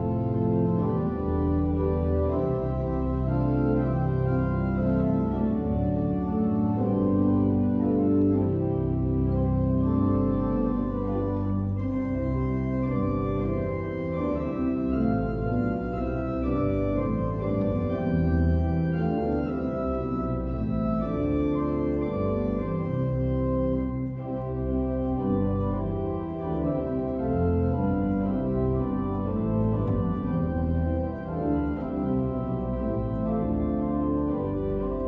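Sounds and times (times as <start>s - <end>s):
organ playing sustained chords: 0.0s - 35.0s.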